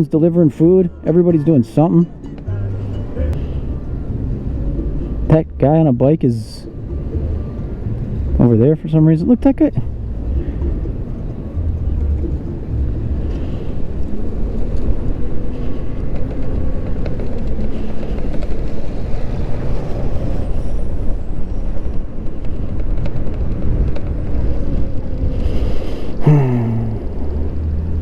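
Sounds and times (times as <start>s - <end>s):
road and traffic noise: 0.0s - 28.0s
wind rumble on microphone: 2.4s - 28.0s.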